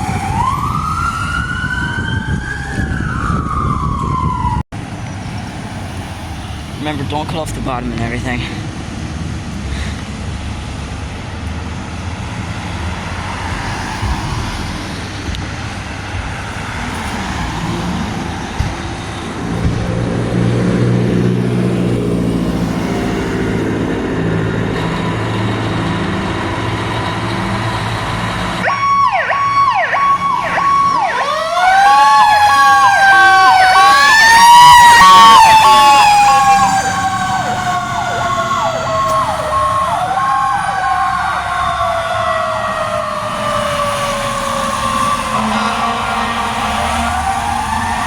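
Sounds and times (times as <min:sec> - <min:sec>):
emergency vehicle siren: 0:00.0 - 0:08.2, 0:12.0 - 0:48.0.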